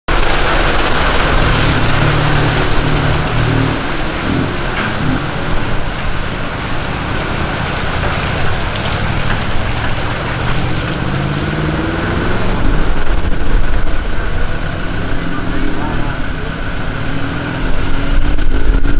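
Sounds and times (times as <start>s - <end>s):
steady rushing noise: 0.1s - 18.9s
vehicle engines passing: 0.1s - 18.9s.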